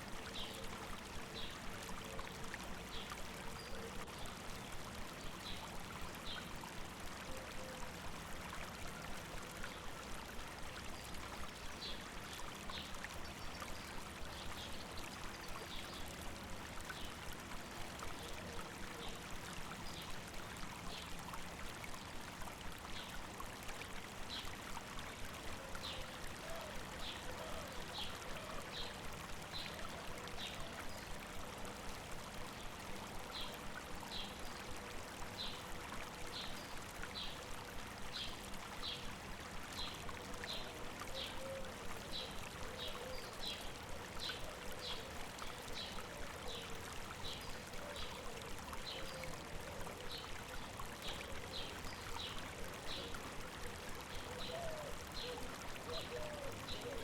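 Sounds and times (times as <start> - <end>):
river water babbling over rocks: 0.0 - 57.0.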